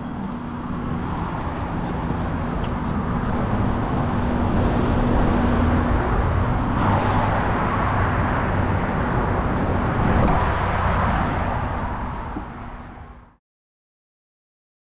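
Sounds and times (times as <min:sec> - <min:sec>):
road traffic rumble: 0:00.0 - 0:13.4.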